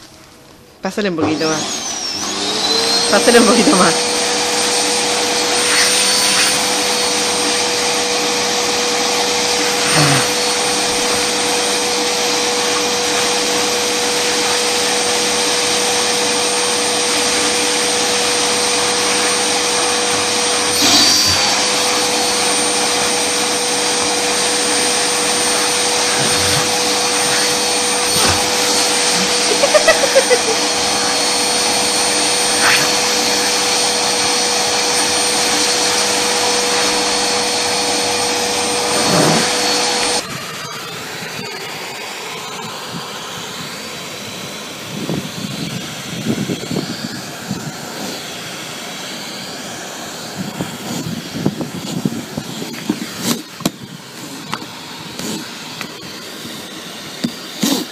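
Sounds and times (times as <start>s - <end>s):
vacuum cleaner whining: 0.0s - 57.9s.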